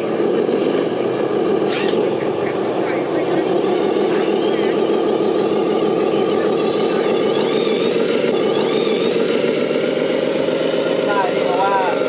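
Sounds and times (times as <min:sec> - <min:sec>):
thin high whine: 0:00.0 - 0:12.0
toy truck engine drone: 0:00.0 - 0:12.0.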